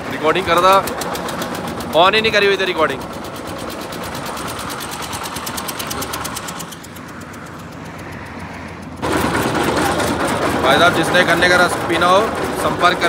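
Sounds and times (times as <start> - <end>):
engine knocking: 0.0 - 13.0.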